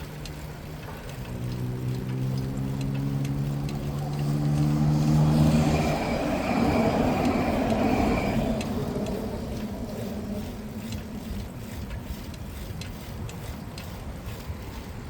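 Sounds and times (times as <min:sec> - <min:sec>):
road noise of passing vehicle: 0:00.0 - 0:15.0
vehicle engine hum: 0:00.0 - 0:15.0.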